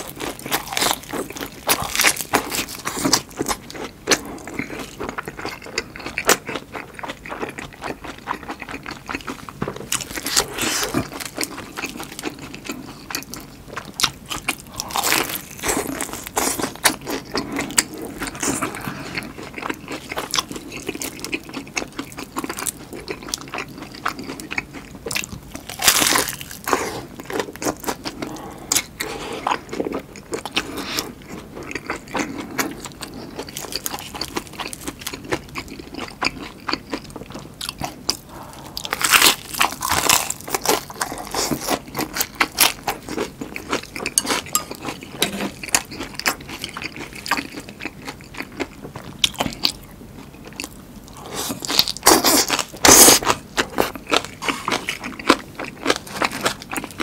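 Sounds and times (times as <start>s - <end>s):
crunchy chewing of fried food: 0.0s - 57.0s.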